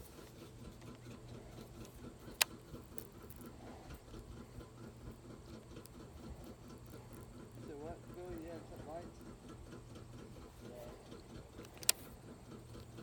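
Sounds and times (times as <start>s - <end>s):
fishing reel ticking: 1.6s - 13.0s.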